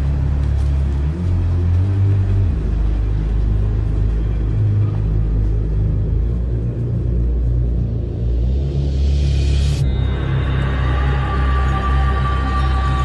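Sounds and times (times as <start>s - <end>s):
electronic music with deep bass: 0.0s - 13.0s.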